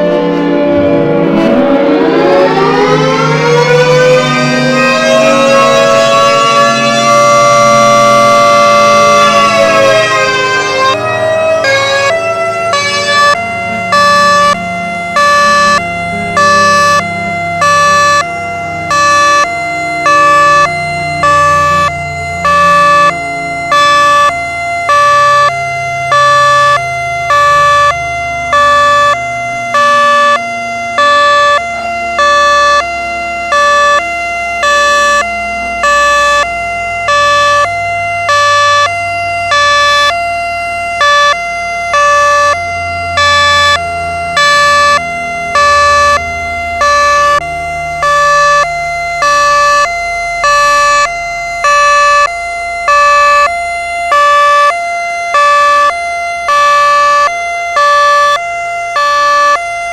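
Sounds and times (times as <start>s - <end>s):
two-tone siren: 0.0s - 59.9s.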